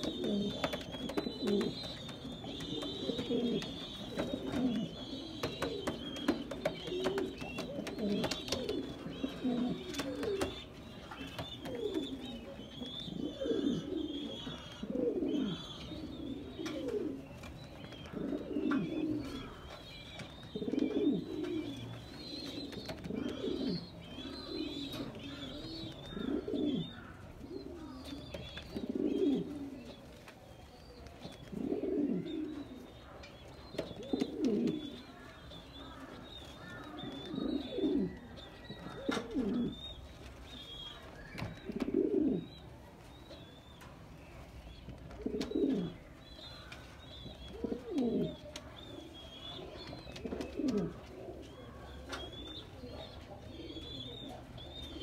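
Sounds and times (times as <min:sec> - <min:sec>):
pigeon cooing: 0:00.0 - 0:17.4, 0:18.0 - 0:43.9, 0:45.1 - 0:55.0.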